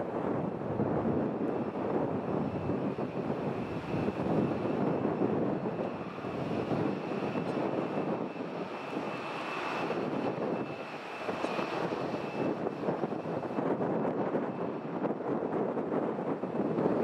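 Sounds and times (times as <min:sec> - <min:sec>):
jet engines taxiing with high whine: 0:00.0 - 0:17.0.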